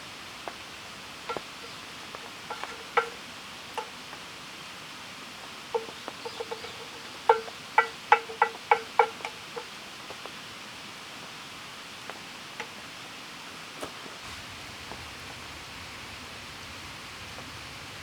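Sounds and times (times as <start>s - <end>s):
rain hissing: 0.0s - 18.0s.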